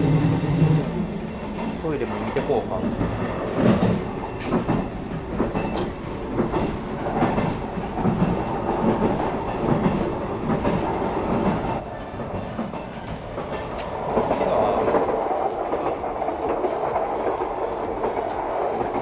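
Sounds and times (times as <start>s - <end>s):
train wheels rumbling on track: 0.0s - 19.0s
clickety-clack thumps: 1.5s - 19.0s.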